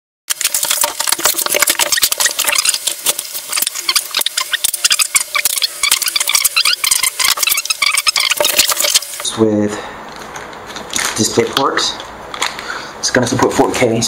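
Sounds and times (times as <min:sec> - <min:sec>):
plastic wrapping crinkling: 0:00.3 - 0:09.3, 0:10.1 - 0:12.8.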